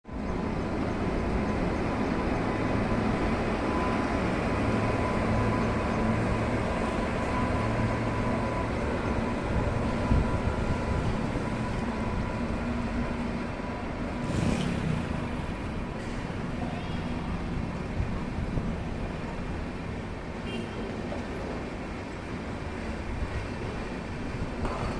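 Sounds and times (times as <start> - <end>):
passenger train rumbling: 0.0 - 24.9.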